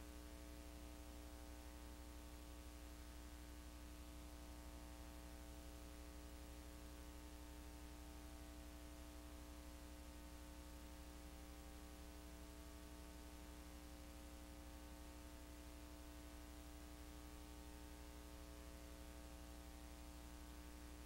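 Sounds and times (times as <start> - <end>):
low hum with faint hiss: 0.0 - 21.0.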